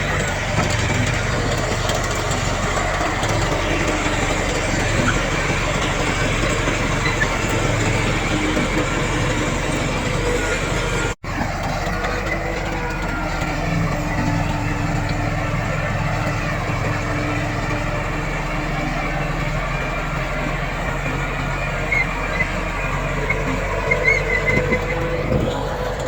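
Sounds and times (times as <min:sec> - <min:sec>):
heavy diesel engines running: 0:00.0 - 0:26.0.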